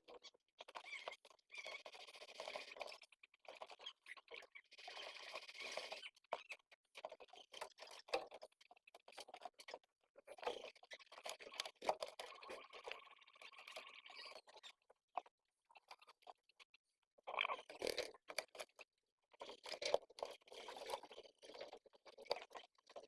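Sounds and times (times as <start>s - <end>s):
thin steady squeaking: 0.0s - 23.0s.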